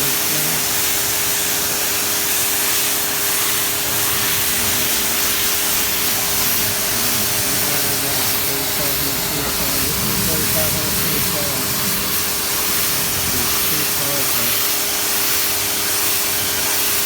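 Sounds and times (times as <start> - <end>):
motor and pump hum: 0.0 - 17.0
pressure washer water jet hiss: 0.0 - 17.0.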